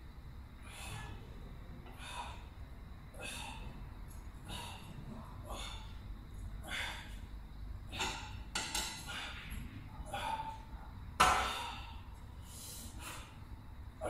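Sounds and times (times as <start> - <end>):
strained breathing and exhales: 0.6 - 13.9.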